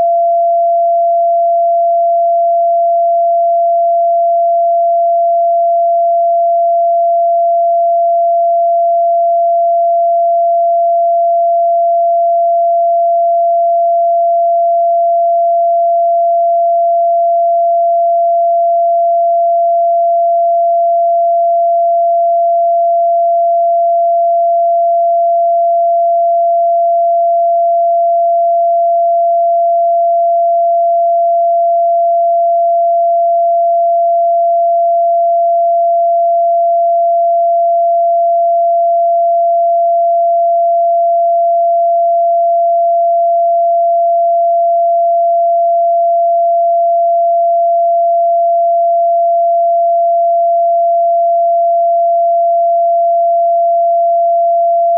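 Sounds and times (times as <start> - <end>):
pure sine-wave tone: 0.0 - 54.9.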